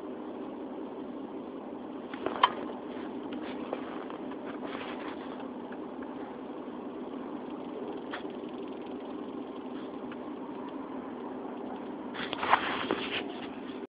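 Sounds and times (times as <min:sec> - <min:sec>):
car engine and road noise: 0:00.0 - 0:13.9.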